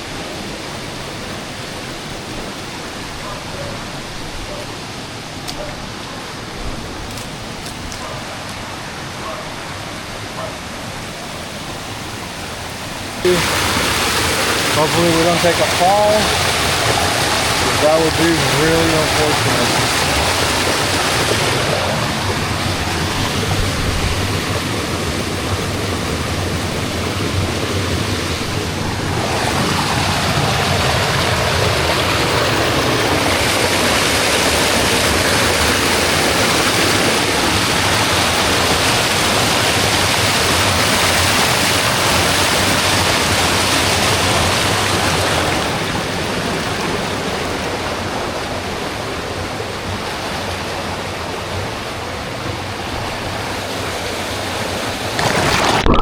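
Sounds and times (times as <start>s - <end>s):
waterfall and stream rushing: 0.0s - 56.0s.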